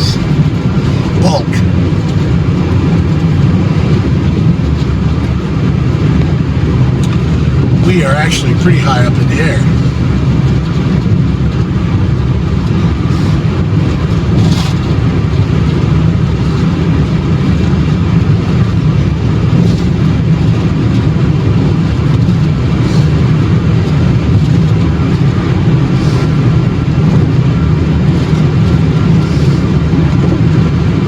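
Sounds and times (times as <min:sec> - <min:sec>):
car cabin road and engine noise: 0:00.0 - 0:31.0.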